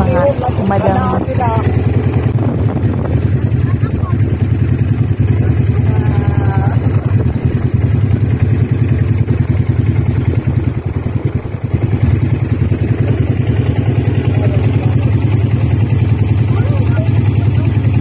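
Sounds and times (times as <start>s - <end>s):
boat engine droning: 0.0s - 18.0s
water rushing along hull: 0.0s - 18.0s.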